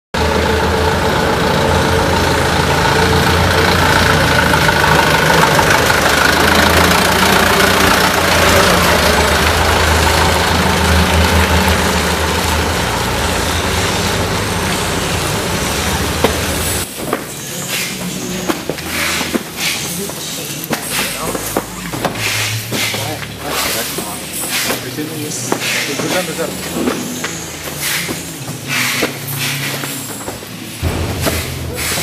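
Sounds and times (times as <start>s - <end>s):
truck engine idling: 0.1s - 32.0s.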